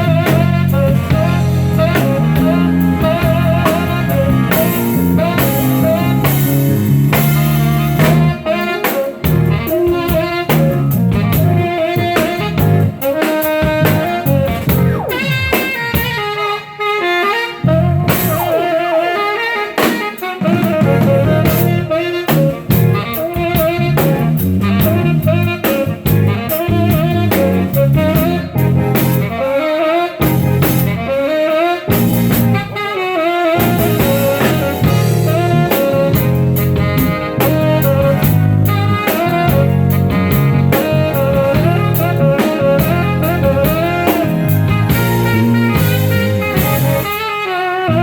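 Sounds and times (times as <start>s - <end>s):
band playing jazz: 0.0s - 48.0s
saxophone lead melody: 0.0s - 48.0s.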